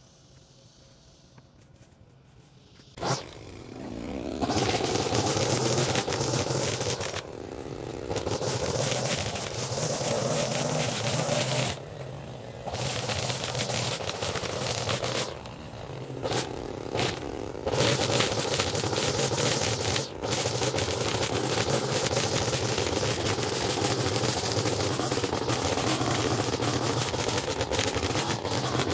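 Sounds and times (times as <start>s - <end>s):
small engine running: 2.6s - 28.9s
loud rough scraping: 3.0s - 12.0s, 12.6s - 28.9s.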